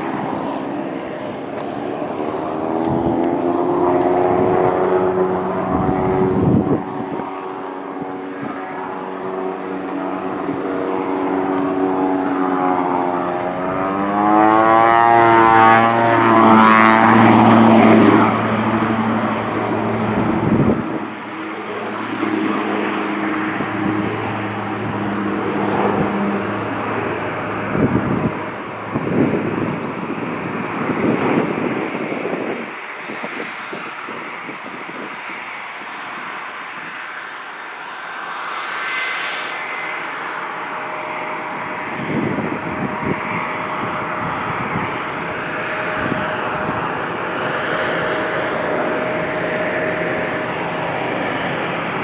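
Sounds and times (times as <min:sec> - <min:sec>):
airplane engine roar: 0:00.0 - 0:52.0
low hum: 0:00.0 - 0:52.0.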